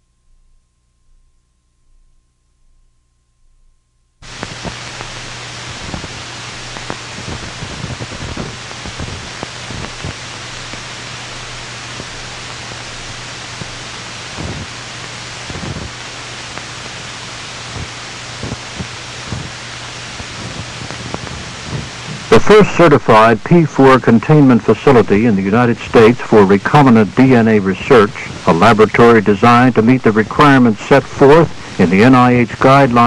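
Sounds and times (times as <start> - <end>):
film soundtrack hiss: 0.0 - 33.0
crackles and pops: 4.2 - 33.0.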